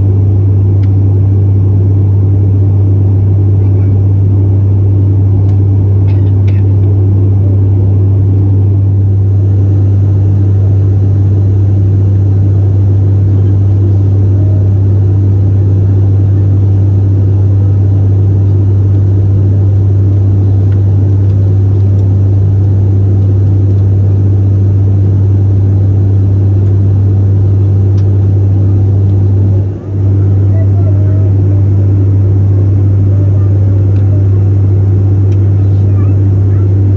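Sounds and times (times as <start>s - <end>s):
aircraft engine rumble: 0.0s - 36.9s
propeller hum: 0.0s - 36.9s.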